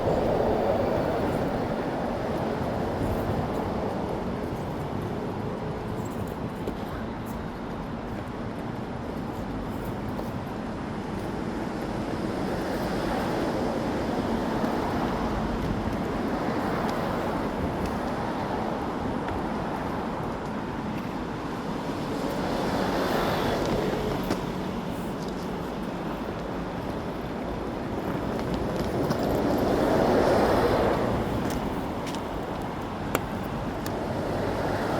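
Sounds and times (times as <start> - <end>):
city street traffic: 0.0 - 34.9.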